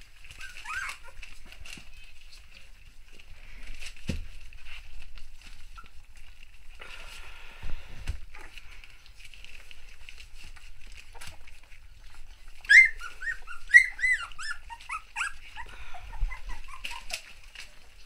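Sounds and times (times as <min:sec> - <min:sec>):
puppies whining and squeaking: 0:00.0 - 0:06.8, 0:09.2 - 0:18.0.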